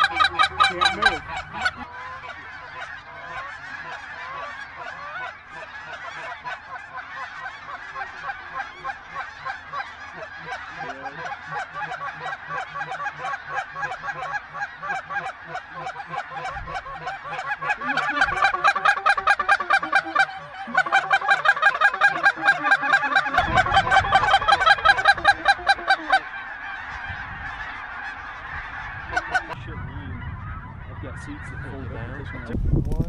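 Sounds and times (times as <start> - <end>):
geese honking: 0.0 - 33.0.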